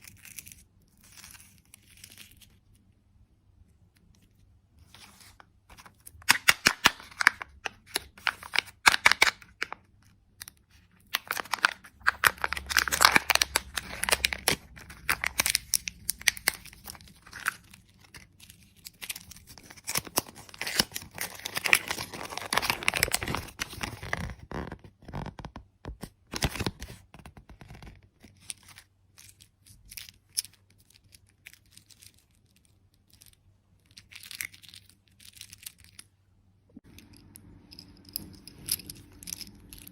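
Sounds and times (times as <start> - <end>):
candy packaging tearing and crinkling: 0.0 - 2.8, 5.0 - 36.0.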